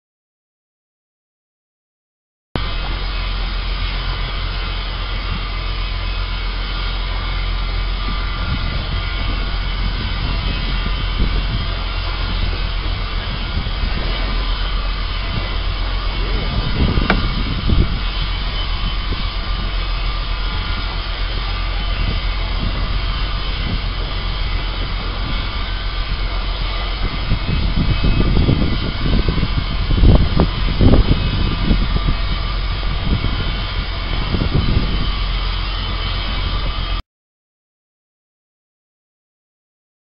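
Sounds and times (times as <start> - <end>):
boat engine drone: 2.6 - 37.0
wind rumbling on microphone: 2.6 - 37.0.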